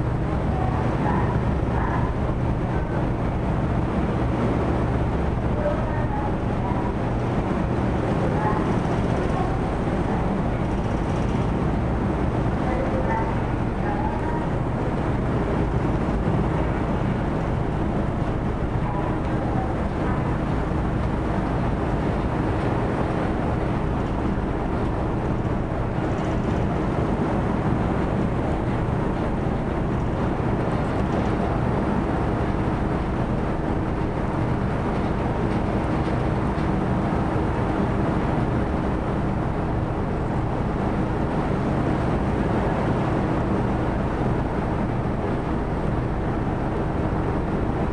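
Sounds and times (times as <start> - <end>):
ship engines humming: 0.0 - 47.9.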